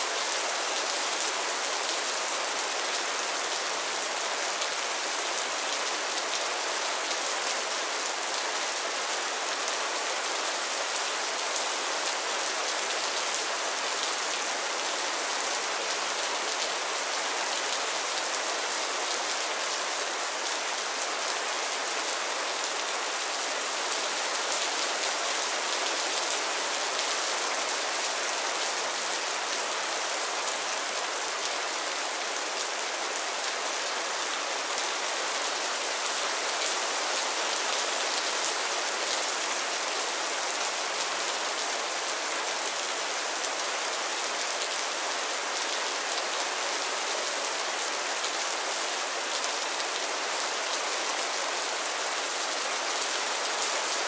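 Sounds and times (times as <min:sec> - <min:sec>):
light rain on a roof: 0:00.0 - 0:54.0.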